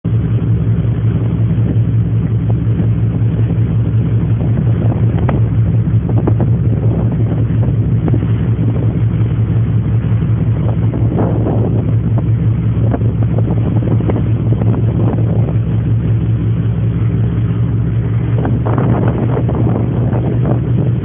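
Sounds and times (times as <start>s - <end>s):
ferry engines droning: 0.1s - 21.0s.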